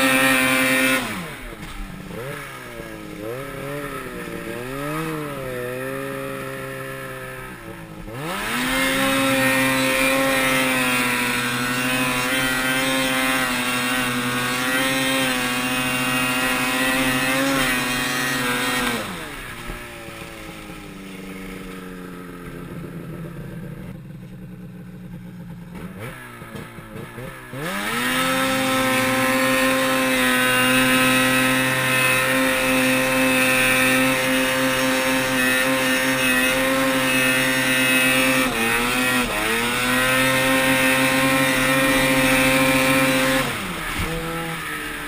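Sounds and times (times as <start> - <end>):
snowmobile engine revving: 0.0 - 45.0.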